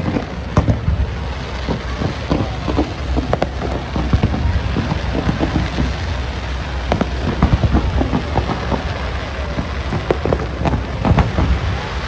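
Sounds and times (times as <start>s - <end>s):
fireworks crackling: 0.0s - 12.0s
sharp firework cracks: 0.0s - 12.0s.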